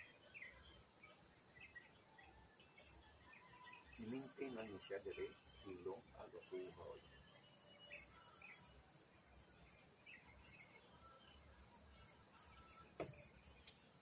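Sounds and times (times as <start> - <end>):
insects chirping chorus: 0.0 - 14.0.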